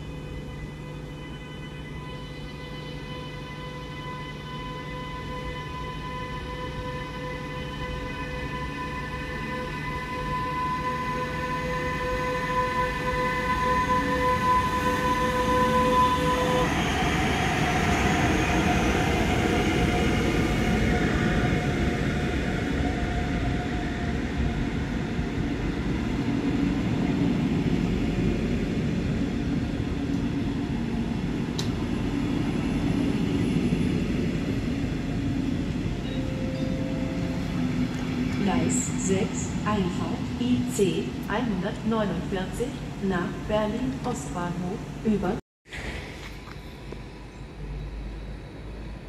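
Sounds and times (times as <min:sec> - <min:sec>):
electric locomotive whine: 0:00.0 - 0:49.0
train wheels rumbling on rails: 0:04.5 - 0:49.0.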